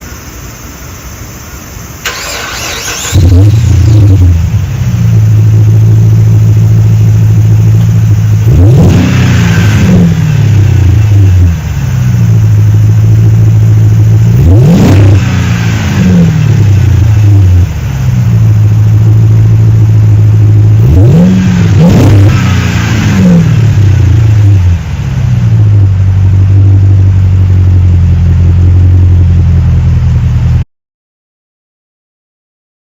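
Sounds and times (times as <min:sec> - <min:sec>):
car engine idling and revving: 0:00.0 - 0:30.6.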